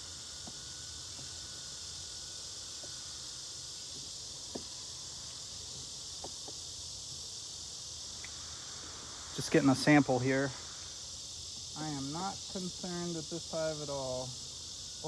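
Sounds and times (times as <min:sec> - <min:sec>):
high insect chirring: 0:00.0 - 0:15.0.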